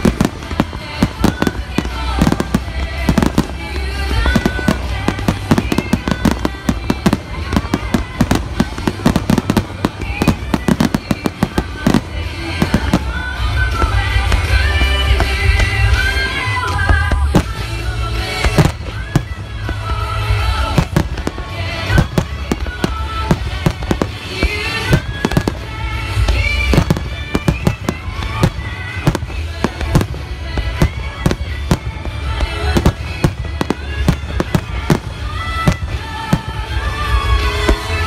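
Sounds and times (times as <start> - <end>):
fireworks bangs: 0.0 - 38.0
music: 0.0 - 38.0.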